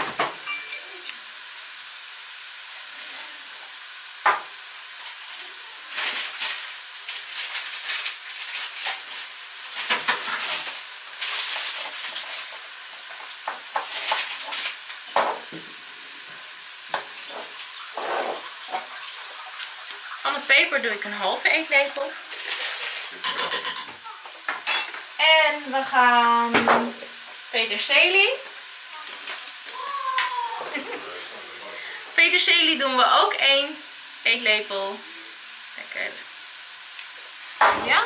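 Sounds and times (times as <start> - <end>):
onions and peppers sizzling in oil: 0.0 - 38.0.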